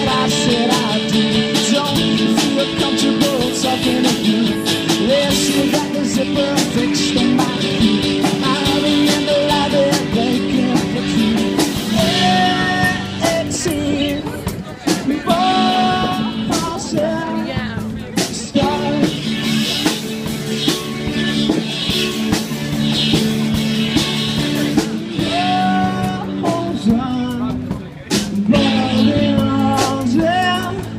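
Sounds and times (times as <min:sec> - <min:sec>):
person singing: 0:00.0 - 0:19.8, 0:24.7 - 0:27.8, 0:28.4 - 0:30.9
rock music with guitar: 0:00.0 - 0:30.9
steady beat: 0:00.0 - 0:30.9.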